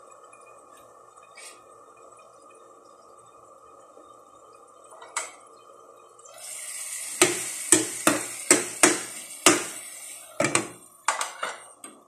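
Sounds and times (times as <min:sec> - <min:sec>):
food sizzling in a frying pan: 0:00.0 - 0:11.8.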